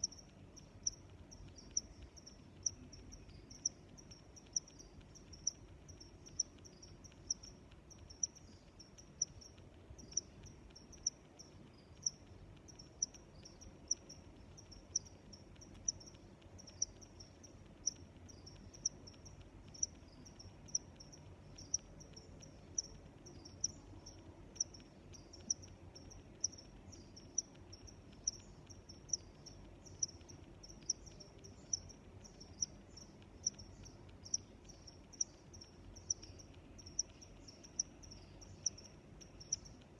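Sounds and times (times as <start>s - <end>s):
loud high cricket chirp: 0.0s - 39.8s
chorus of faint cricket chirps: 0.0s - 39.9s.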